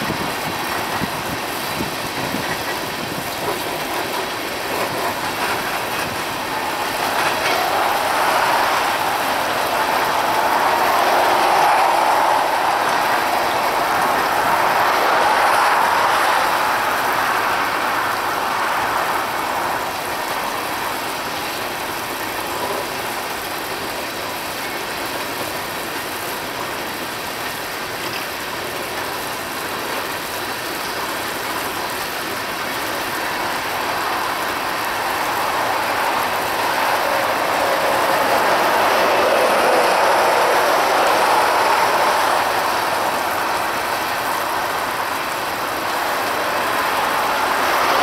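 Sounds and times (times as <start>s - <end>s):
train wheels rattling on rails: 0.0s - 48.0s.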